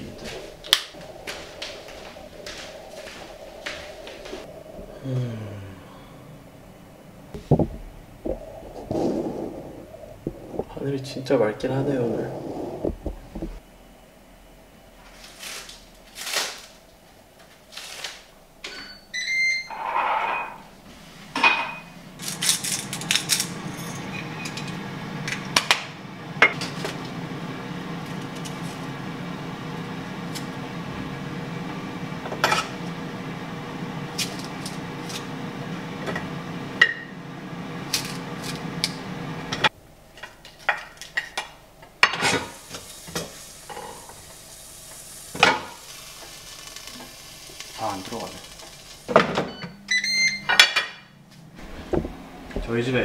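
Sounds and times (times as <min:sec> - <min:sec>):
kitchen appliance humming: 0:00.0 - 0:13.6, 0:21.2 - 0:53.0.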